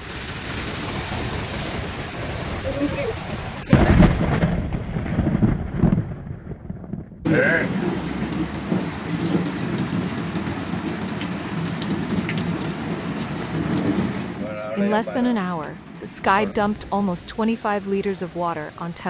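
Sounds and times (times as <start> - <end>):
heavy rain pouring onto water: 0.0 - 5.6, 7.3 - 19.0
thunderclap rumbling: 0.0 - 18.9.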